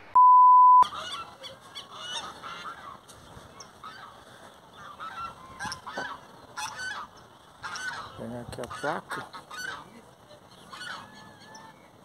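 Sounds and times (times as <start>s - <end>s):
birds honking: 0.8s - 12.0s.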